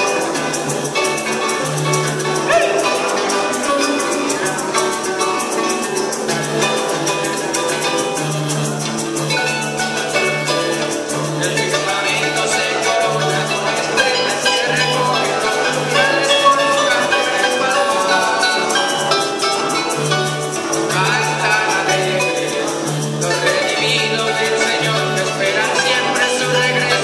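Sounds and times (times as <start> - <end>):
harp: 0.0 - 27.0
maracas shaking: 0.0 - 27.0
plucked string instrument: 0.0 - 27.0.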